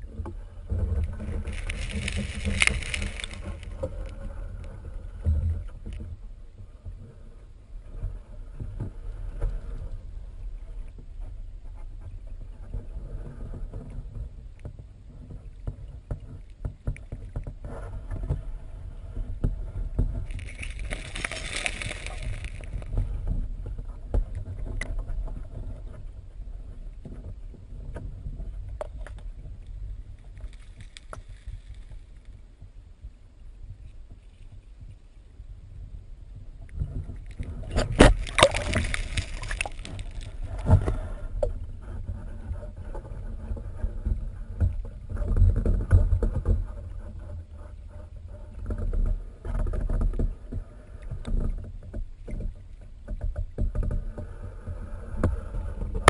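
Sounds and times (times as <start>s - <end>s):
underwater river rumble: 0.0s - 56.0s.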